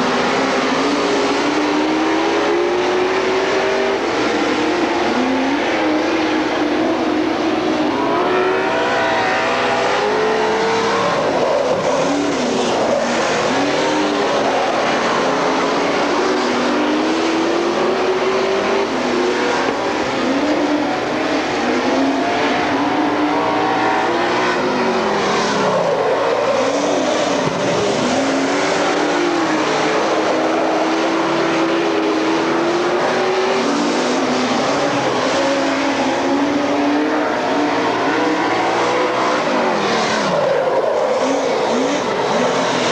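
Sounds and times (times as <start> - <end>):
race car engines passing by: 0.0 - 42.9.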